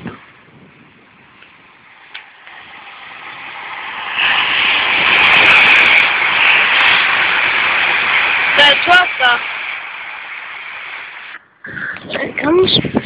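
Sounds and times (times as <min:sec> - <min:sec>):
electric train passing at speed: 0:00.2 - 0:11.5.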